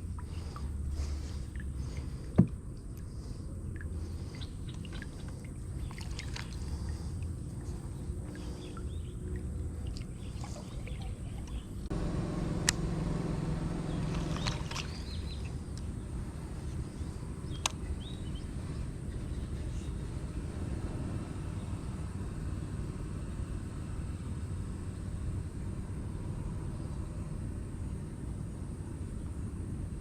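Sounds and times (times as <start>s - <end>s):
low engine hum: 0.0s - 30.0s
low outdoor rumble: 0.0s - 30.0s.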